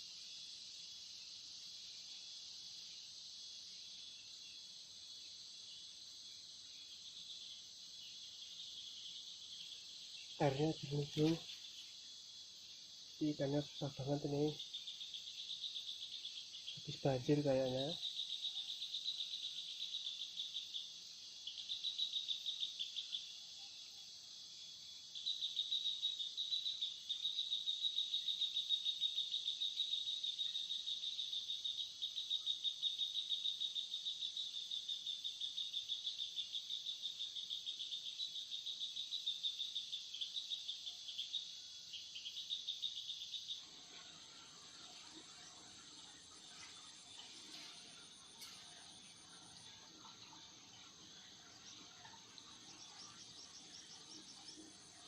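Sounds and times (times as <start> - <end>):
insect trilling: 0.0 - 24.2, 24.9 - 55.0.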